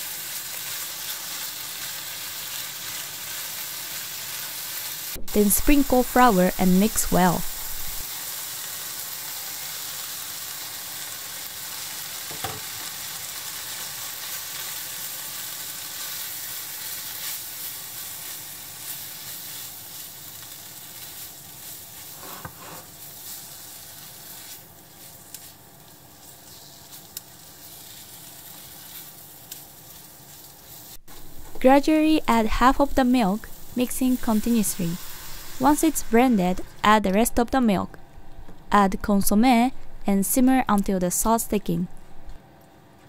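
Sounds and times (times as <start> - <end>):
fish and spinach sizzling in oil: 0.0 - 36.8.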